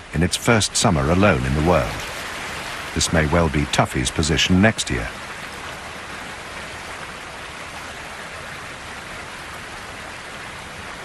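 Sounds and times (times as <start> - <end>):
river water rushing over falls: 0.0 - 11.0.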